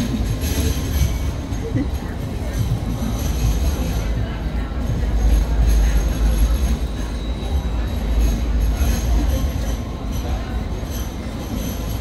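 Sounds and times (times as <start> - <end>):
tram rumbling on tracks: 0.0 - 12.0.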